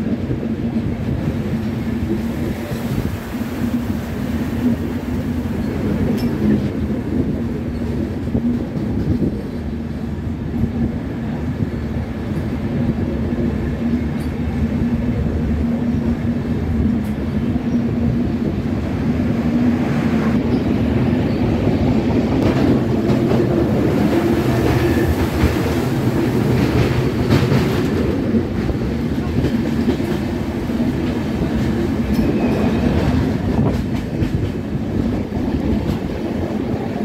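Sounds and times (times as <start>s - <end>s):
train wheels clickety-clack: 0.0s - 18.7s, 19.3s - 37.0s
train rattling: 0.0s - 37.0s.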